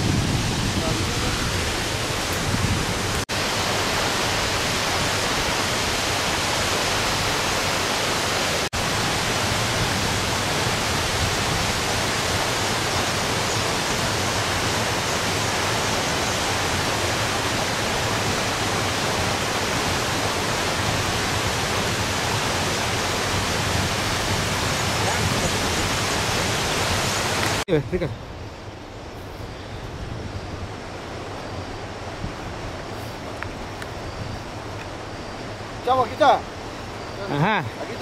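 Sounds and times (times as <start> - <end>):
waterfall rushing: 0.0 - 28.1, 30.6 - 38.0.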